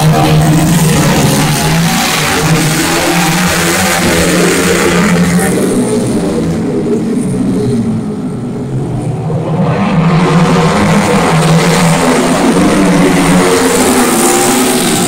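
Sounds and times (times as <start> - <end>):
racing motorcycle engines high revs: 0.0 - 15.0.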